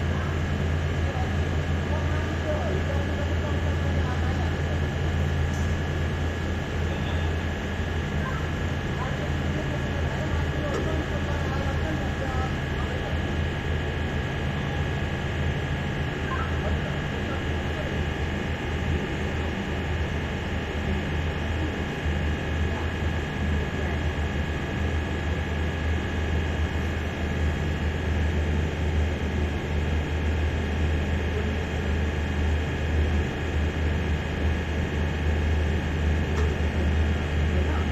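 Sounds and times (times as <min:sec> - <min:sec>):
generator humming: 0:00.0 - 0:37.9.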